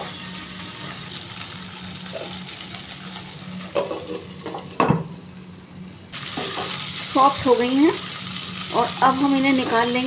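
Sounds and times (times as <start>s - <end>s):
okra sizzling in oil: 0.0s - 4.8s, 6.1s - 10.0s.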